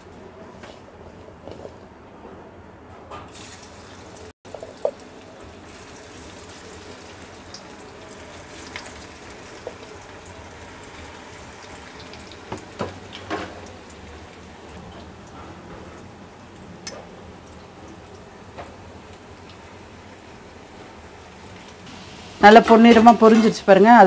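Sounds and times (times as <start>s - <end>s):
deep-frying sizzling and crackling: 3.3s - 24.0s.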